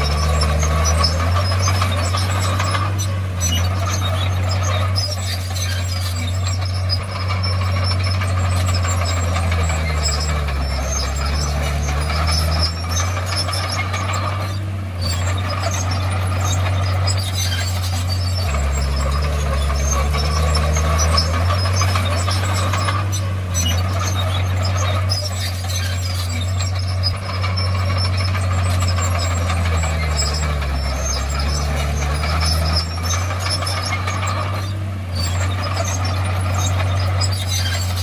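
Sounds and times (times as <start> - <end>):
bulldozer diesel engine running: 0.0 - 38.0
steel tracks squealing and clattering: 0.0 - 38.0.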